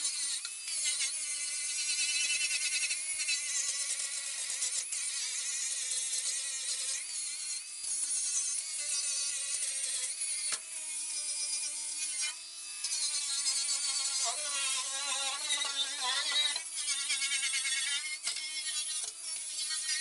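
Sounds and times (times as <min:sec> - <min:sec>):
angle grinder on steel: 0:00.0 - 0:20.0.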